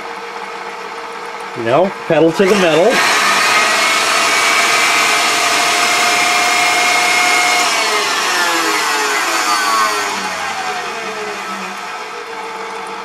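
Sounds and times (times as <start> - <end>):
stand mixer motor whine: 2.2 - 13.0.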